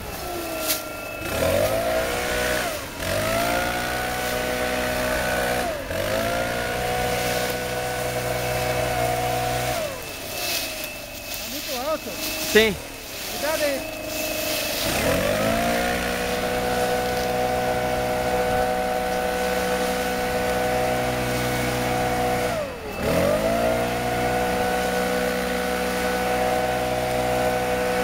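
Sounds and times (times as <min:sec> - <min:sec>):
leaf blower engine revving: 0:00.0 - 0:28.0.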